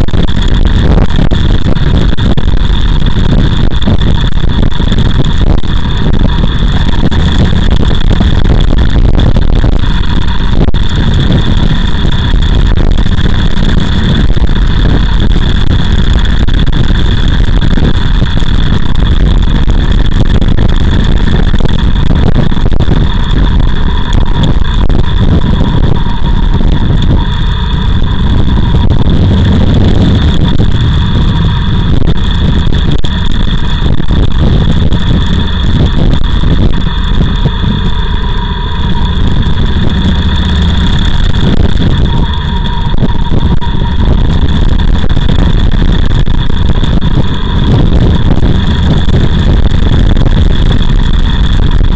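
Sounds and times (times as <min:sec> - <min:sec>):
motorcycle engine running: 0:00.0 - 0:51.9
wind rush on microphone: 0:00.0 - 0:51.9.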